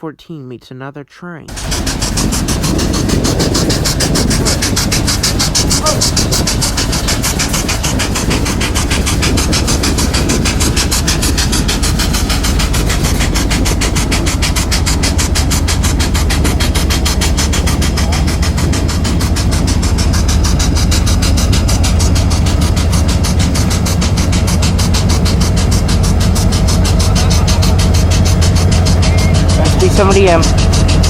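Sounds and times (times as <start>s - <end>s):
diesel locomotive engine rumble: 1.5s - 31.0s.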